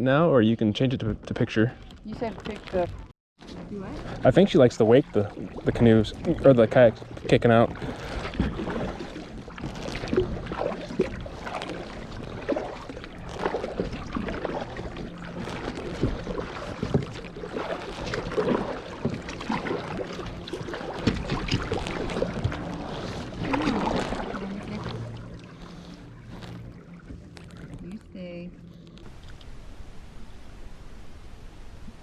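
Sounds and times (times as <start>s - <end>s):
water lapping along hull: 0.1s - 32.0s
paddle splashing in water: 3.8s - 27.8s, 29.0s - 32.0s.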